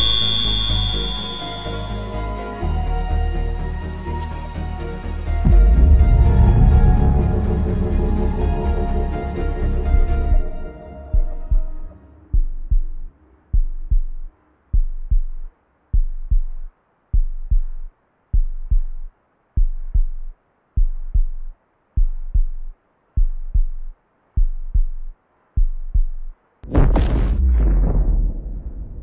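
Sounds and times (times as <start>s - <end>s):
heartbeat low thumps: 5.4s - 29.0s.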